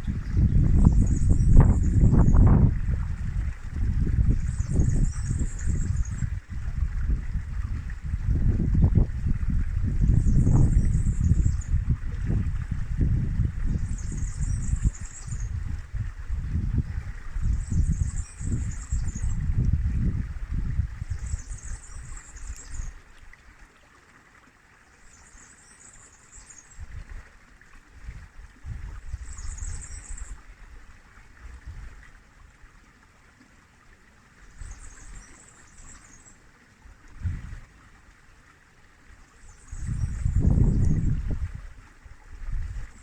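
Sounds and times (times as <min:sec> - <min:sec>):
river water flowing: 0:00.0 - 0:43.0.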